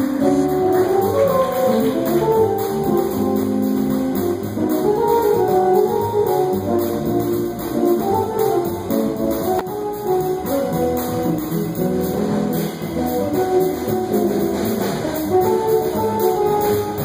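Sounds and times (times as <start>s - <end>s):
double bass walking: 0.0s - 17.0s.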